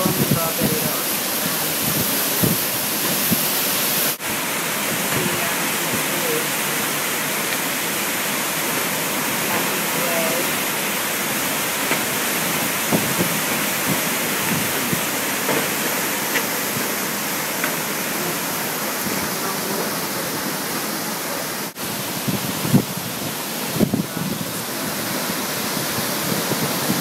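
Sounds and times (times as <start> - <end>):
wind and rain rushing: 0.0 - 27.0.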